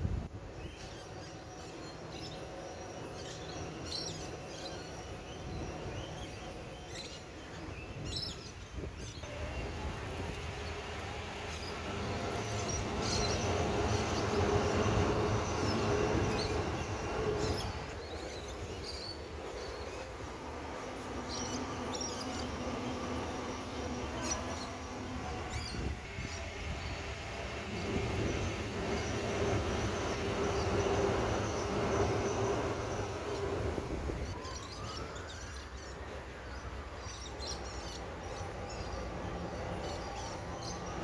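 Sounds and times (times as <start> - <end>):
electric train rumbling on bridge: 0.0 - 41.0.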